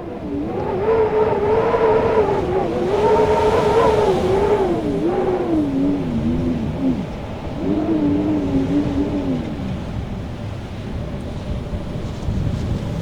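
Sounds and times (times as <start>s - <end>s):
wind howling: 0.0s - 12.9s.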